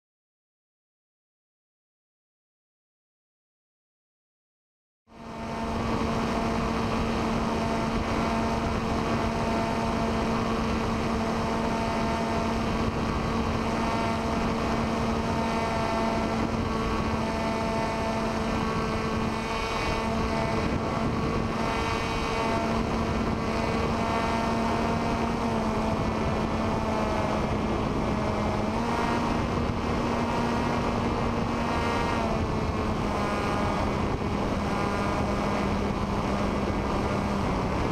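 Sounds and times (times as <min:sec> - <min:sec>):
model airplane motor buzzing: 0:05.1 - 0:37.9
wind rush: 0:05.2 - 0:37.9.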